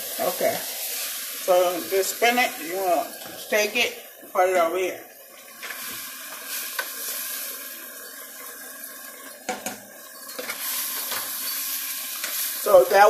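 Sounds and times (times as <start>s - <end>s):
spinach sizzling in a pan: 0.0s - 13.0s.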